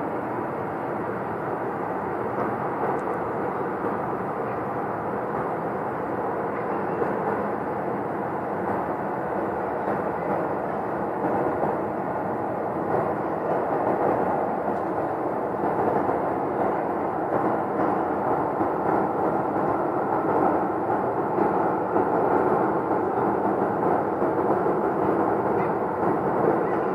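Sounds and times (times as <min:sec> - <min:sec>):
loud continuous noise: 0:00.0 - 0:26.9.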